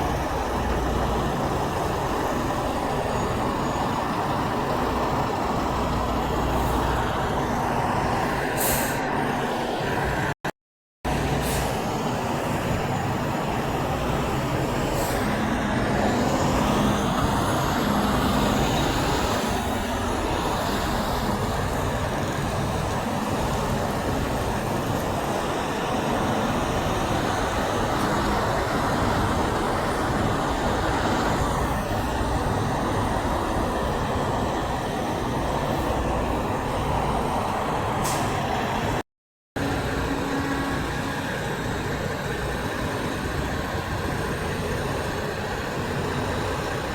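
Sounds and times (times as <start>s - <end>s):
diesel trucks passing: 0.0s - 10.4s, 11.1s - 39.0s, 39.6s - 46.9s
road noise: 0.0s - 39.0s, 39.6s - 46.9s.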